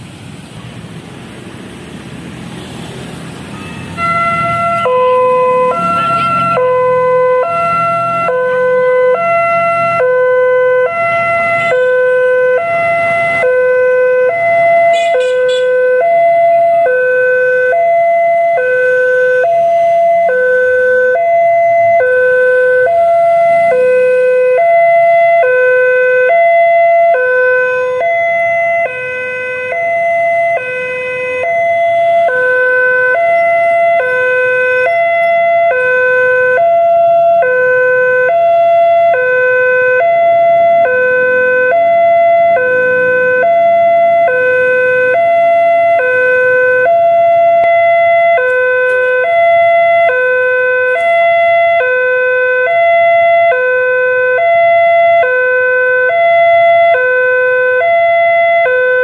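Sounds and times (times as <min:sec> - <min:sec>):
level crossing two-tone warning signal: 0:03.6 - 0:59.0.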